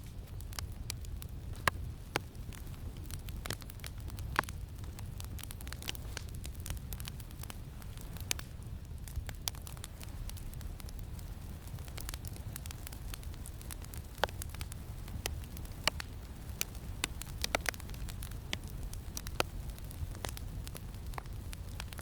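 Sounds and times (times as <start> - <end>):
campfire crackling and popping: 0.0 - 22.0
low rumble of wind: 0.0 - 22.0.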